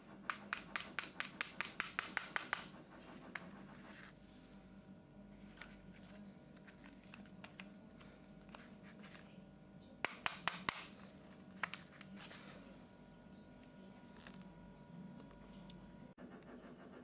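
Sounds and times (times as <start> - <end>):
faint steady hum: 0.0 - 16.7.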